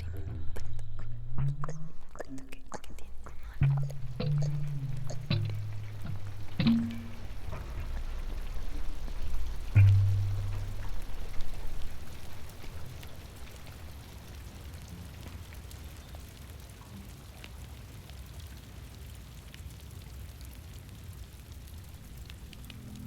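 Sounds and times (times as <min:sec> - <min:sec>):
raindrops ticking: 0:00.0 - 0:23.0
steady rain hiss: 0:00.0 - 0:23.0.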